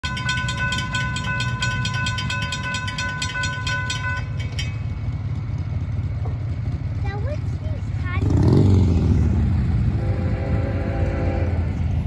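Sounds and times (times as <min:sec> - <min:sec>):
railroad crossing bells ringing: 0:00.0 - 0:12.0.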